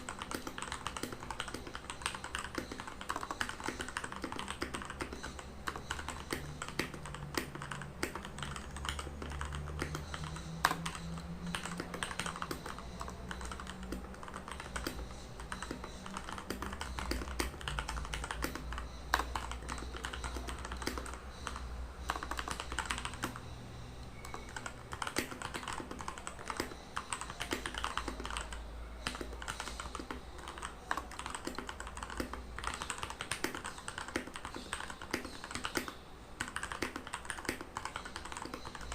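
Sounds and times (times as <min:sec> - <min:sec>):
mechanical keyboard typing: 0:00.0 - 0:23.5, 0:24.2 - 0:38.9.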